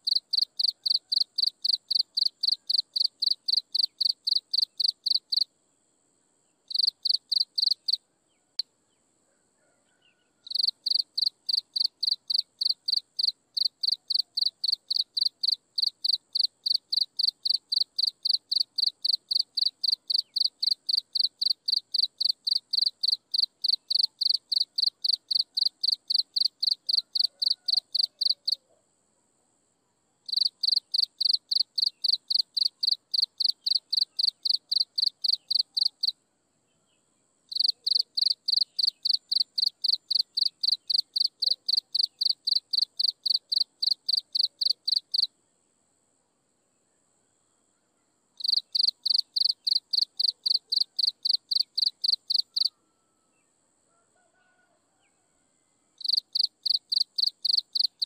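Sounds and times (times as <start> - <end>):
insect chirping: 0.0 - 9.0, 10.4 - 36.3, 36.9 - 53.7, 55.8 - 58.0.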